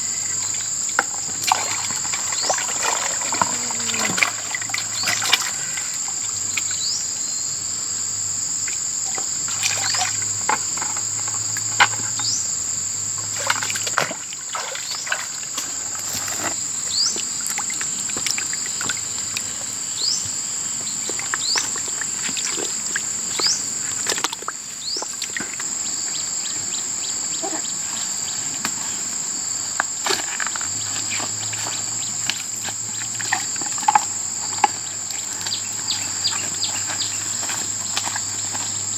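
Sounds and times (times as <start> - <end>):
insects droning: 0.0 - 38.9
fish splashing in a bucket: 0.4 - 6.9, 8.7 - 12.4, 13.1 - 19.7, 20.8 - 26.2, 29.7 - 38.9.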